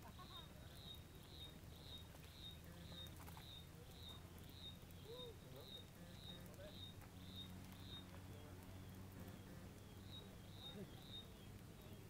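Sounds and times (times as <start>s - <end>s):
low steady hum: 0.0s - 12.0s
small animal chirping: 0.2s - 11.6s.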